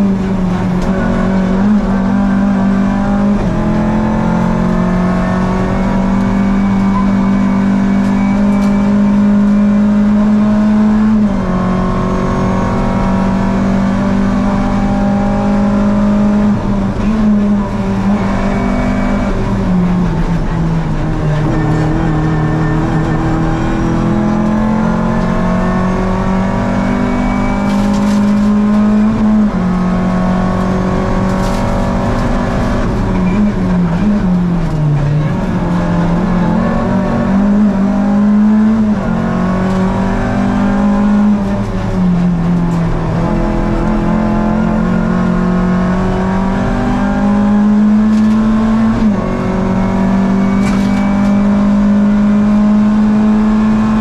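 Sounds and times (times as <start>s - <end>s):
rally car engine accelerating: 0.0s - 54.0s.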